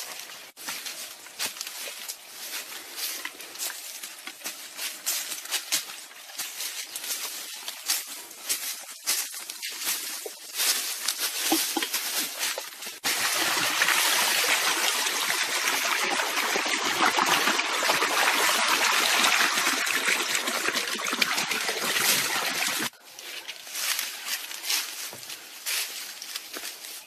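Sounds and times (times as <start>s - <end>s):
water pouring and splashing: 0.1s - 22.9s.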